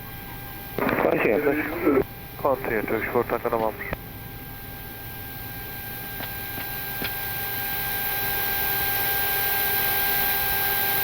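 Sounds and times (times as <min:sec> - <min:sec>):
cockpit hum with thin whine: 0:00.0 - 0:11.0.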